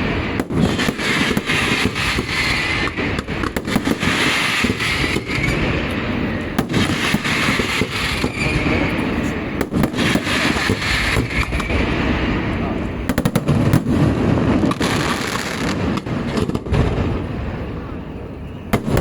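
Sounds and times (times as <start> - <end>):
fireworks bangs and crackling: 0.0 - 19.0
fireworks rumble and hiss: 0.0 - 19.0.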